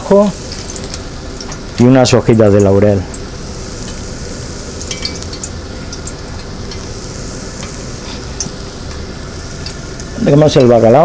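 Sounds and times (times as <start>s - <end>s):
shallots sizzling in butter: 0.0s - 11.0s.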